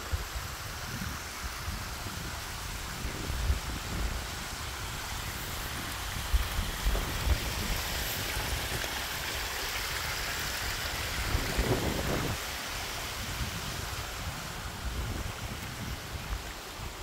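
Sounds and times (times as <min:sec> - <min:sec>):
waterfall splashing on rock: 0:00.0 - 0:17.0.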